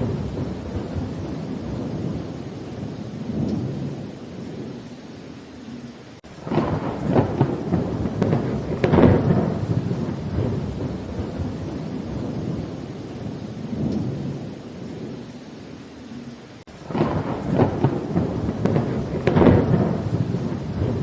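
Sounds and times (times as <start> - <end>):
thunder: 0.0 - 4.7, 6.4 - 15.2, 16.7 - 21.0
steady rain: 0.0 - 21.0.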